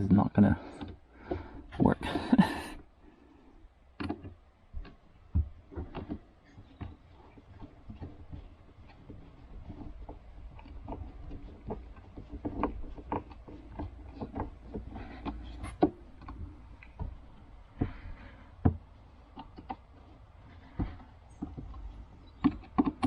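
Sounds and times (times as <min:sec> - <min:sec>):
light knocks and clicks on wood: 0:00.6 - 0:02.3, 0:04.0 - 0:23.0
wooden thumps: 0:00.6 - 0:02.9, 0:04.0 - 0:23.0.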